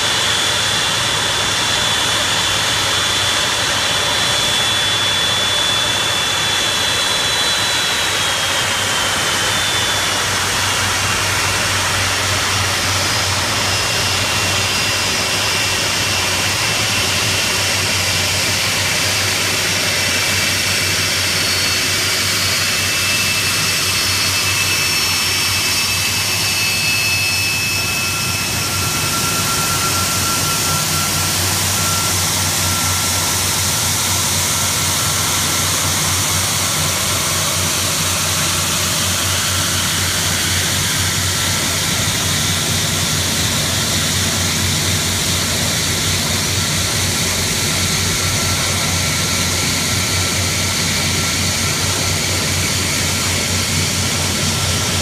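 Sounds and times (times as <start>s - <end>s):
jet engines rumbling and whining: 0.0s - 55.0s.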